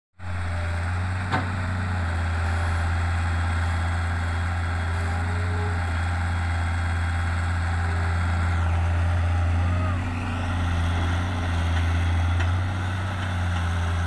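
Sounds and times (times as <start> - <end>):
diesel engine running: 0.2 - 14.0.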